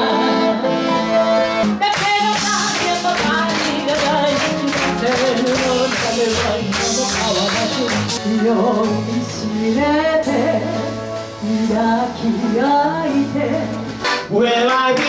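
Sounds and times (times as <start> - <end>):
acoustic band accompaniment: 0.0 - 15.0.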